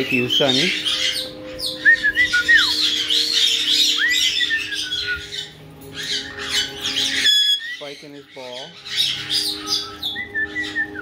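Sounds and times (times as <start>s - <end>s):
parrots chirping and squawking: 0.0s - 11.0s.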